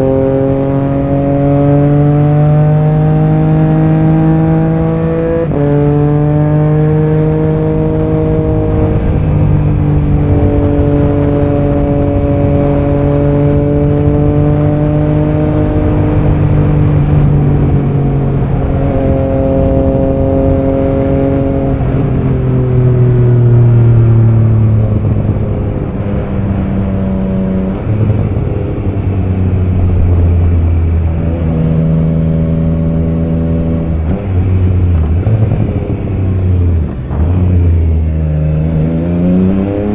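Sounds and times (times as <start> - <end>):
motorcycle engine changing gear: 0.0 - 39.9.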